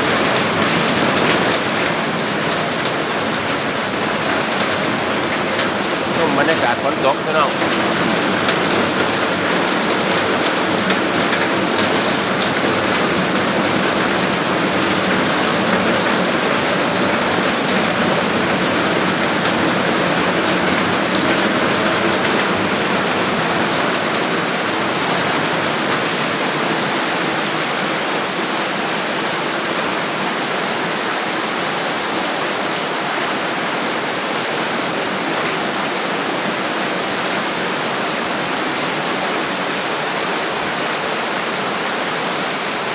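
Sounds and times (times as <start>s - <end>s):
heavy rain pouring: 0.0s - 42.9s
runoff water rushing: 0.0s - 42.9s.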